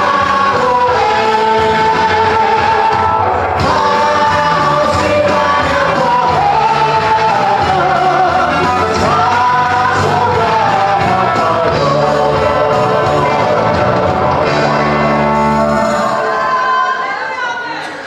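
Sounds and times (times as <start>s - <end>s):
band accompaniment: 0.0s - 16.9s
singers singing worship song: 0.0s - 17.2s.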